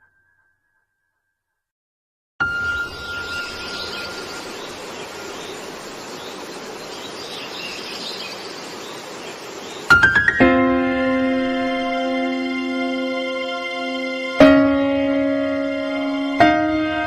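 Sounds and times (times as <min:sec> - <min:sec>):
hiss-like nature bed: 0:02.4 - 0:17.0.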